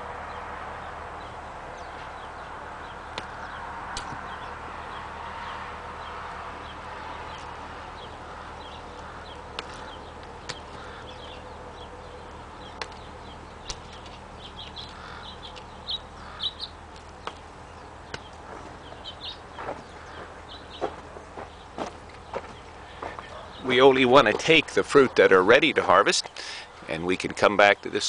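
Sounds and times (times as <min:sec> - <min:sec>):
steady outdoor background: 0:00.0 - 0:28.0
high bird chirps: 0:00.3 - 0:24.3.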